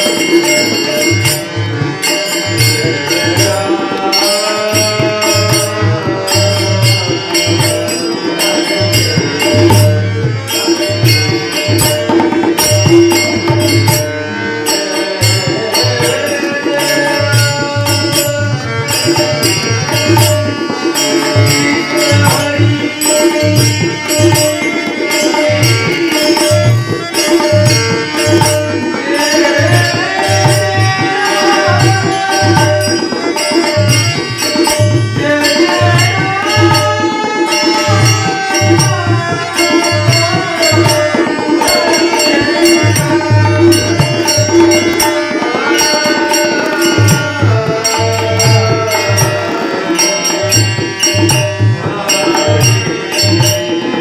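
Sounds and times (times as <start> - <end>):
tabla beating: 0.0 - 54.0.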